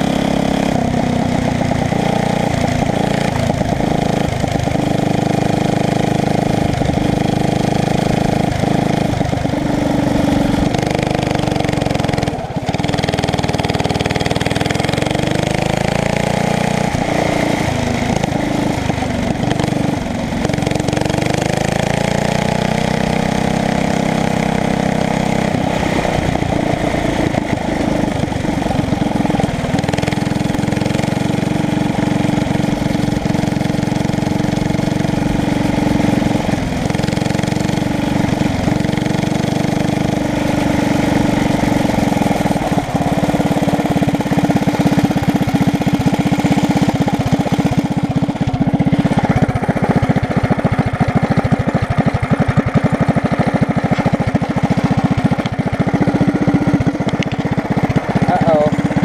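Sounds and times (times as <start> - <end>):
go-kart engine under load: 0.0 - 59.0.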